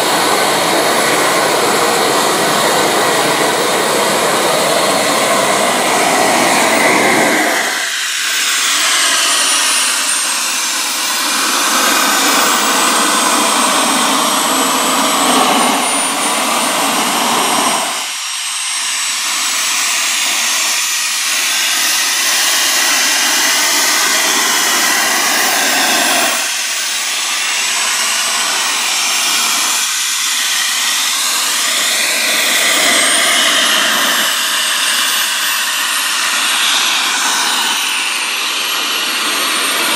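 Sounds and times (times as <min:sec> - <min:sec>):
model jet engine whine: 0:00.0 - 0:39.9.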